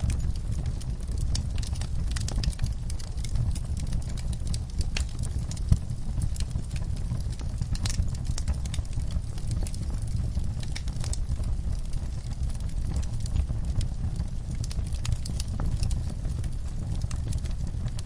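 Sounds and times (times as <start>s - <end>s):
fire crackling and popping: 0.0s - 18.0s
fire flames rumbling: 0.0s - 18.0s.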